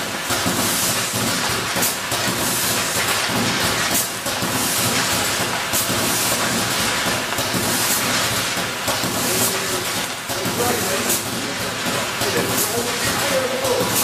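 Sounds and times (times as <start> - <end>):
conveyor line hiss and rumble: 0.0 - 14.0.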